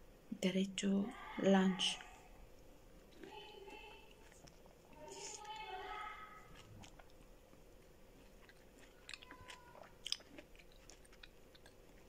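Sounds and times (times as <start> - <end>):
person chewing food: 2.0 - 12.0.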